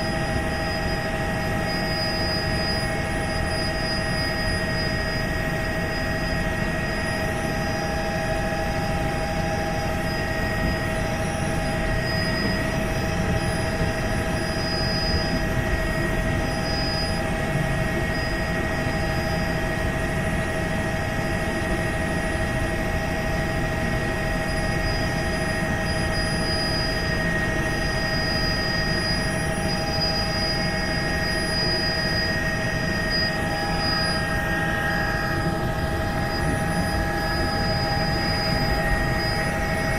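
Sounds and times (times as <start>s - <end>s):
helicopter engine and rotor drone: 0.0s - 39.9s
high whining tones: 0.0s - 39.9s.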